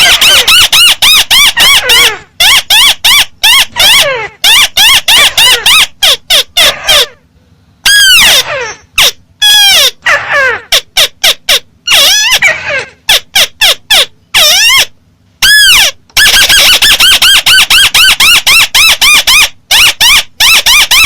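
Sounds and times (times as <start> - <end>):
bird calling harshly: 0.0 - 7.2, 7.8 - 21.0.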